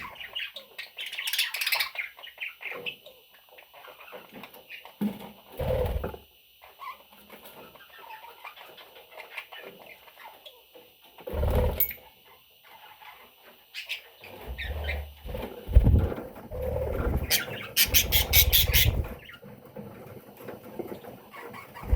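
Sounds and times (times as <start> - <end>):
budgie chicks chirping: 0.0 - 19.6, 20.4 - 21.9.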